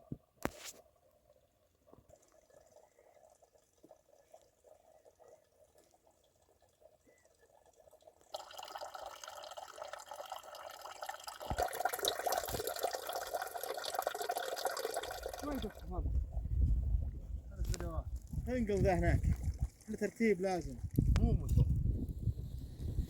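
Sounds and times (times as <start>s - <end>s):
water pouring: 0.4s - 21.6s.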